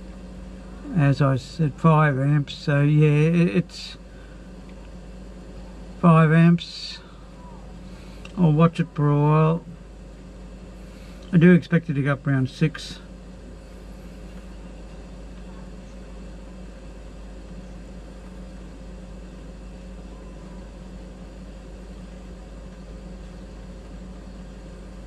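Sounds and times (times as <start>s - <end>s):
fridge compressor humming: 0.0s - 25.0s.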